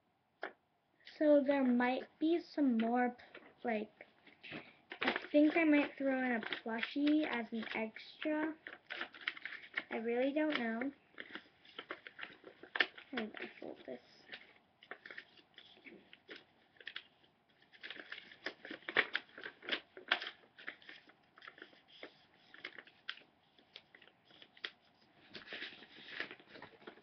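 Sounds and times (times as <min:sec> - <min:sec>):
paper being folded and creased: 0:04.2 - 0:27.0.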